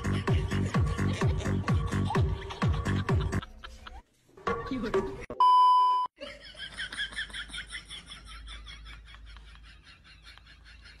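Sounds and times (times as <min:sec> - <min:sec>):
laughter sound effect: 0:00.0 - 0:04.1, 0:06.2 - 0:11.0.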